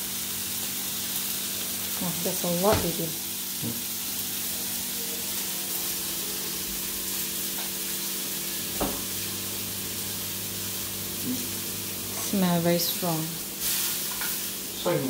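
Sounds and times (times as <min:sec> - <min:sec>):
steak sizzling in a frying pan: 0:00.0 - 0:15.0.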